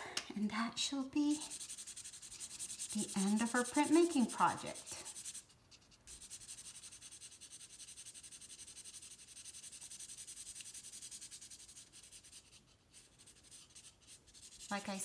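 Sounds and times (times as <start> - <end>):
marker scribbling on paper: 1.2 - 15.0.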